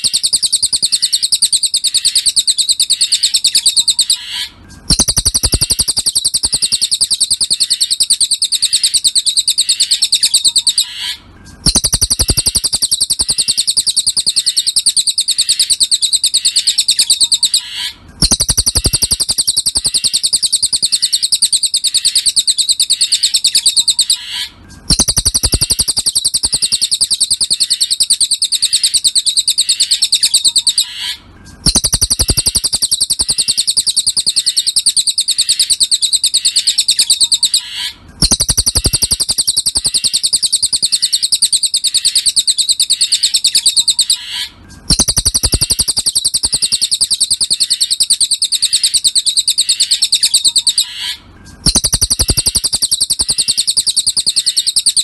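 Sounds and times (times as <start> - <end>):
songbird twittering trill: 0.0 - 55.0.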